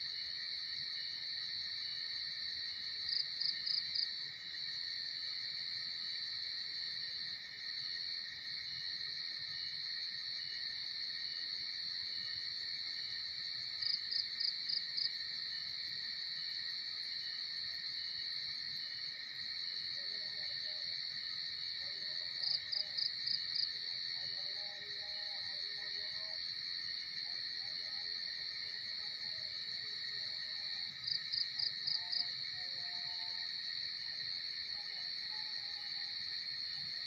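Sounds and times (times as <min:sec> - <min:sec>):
crickets trilling: 0:00.0 - 0:37.0
loud cricket chirps: 0:00.0 - 0:37.0.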